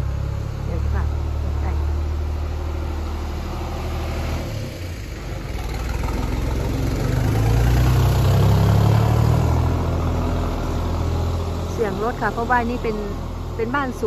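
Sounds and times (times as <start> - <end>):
farm vehicle engine droning: 0.0 - 14.0.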